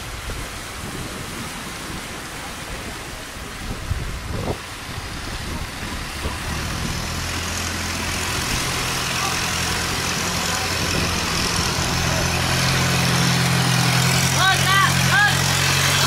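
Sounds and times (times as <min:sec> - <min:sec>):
rushing water: 0:00.0 - 0:16.0
boat engine running: 0:00.1 - 0:16.0.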